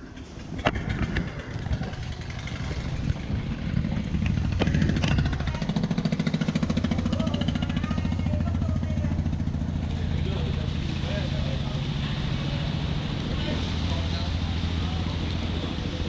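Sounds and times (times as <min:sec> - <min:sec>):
small engine running: 0:00.7 - 0:16.0.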